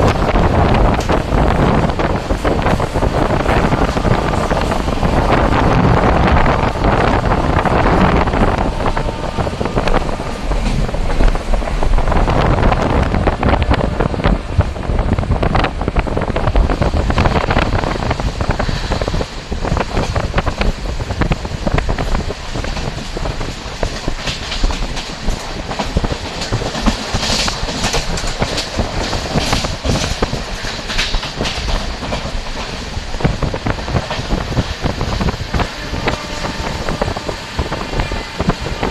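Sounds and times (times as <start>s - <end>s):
clickety-clack of track: 0.0s - 38.9s
train wheels rumbling on rails: 0.0s - 38.9s.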